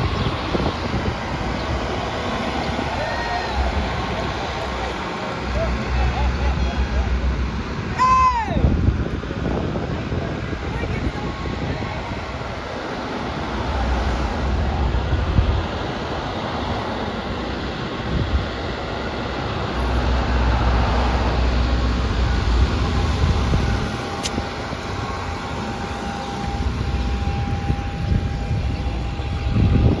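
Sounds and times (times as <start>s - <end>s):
vehicles driving along street: 0.0s - 30.0s.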